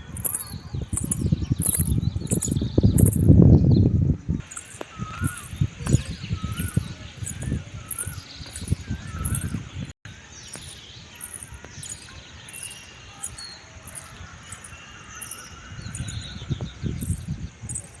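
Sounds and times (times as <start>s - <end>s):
insects chirping: 0.0s - 3.5s, 4.3s - 18.0s
bird calls: 0.0s - 18.0s.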